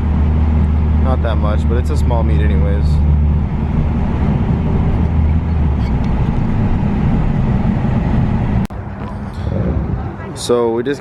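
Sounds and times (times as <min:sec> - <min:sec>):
car engine droning: 0:00.0 - 0:11.0
road noise: 0:00.0 - 0:11.0.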